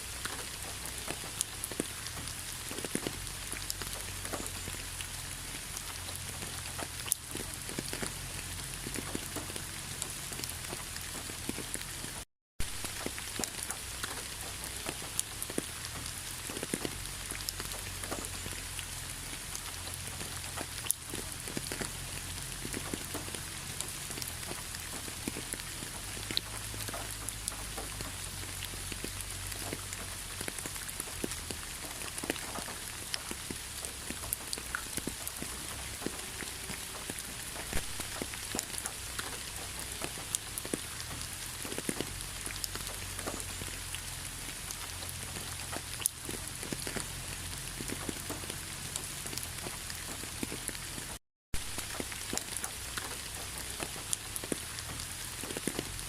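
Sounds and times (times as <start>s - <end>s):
steady rain: 0.0s - 56.0s
raindrops clicking: 0.1s - 56.0s.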